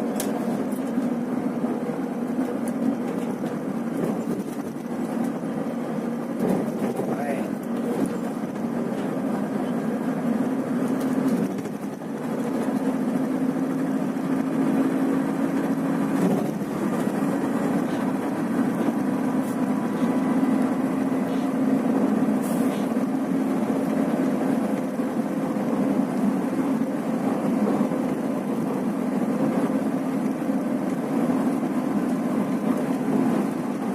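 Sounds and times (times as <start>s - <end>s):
coach engine drone: 0.0s - 33.9s
road noise: 0.0s - 33.9s.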